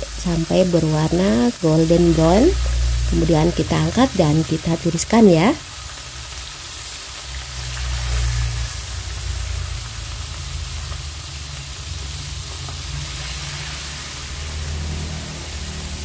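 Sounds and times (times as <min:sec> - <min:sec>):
low steady rumble: 0:00.0 - 0:15.6
oil sizzling: 0:00.0 - 0:16.0.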